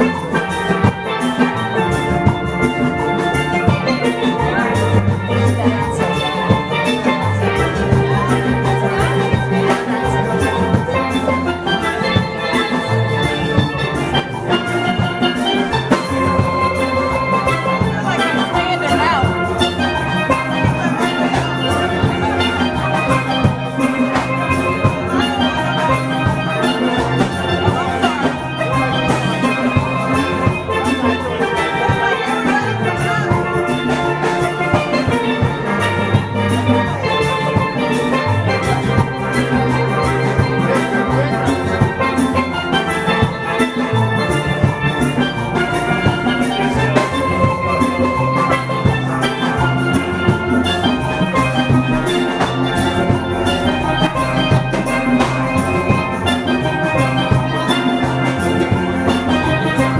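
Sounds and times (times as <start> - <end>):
instrumental music with drums: 0.0 - 59.9.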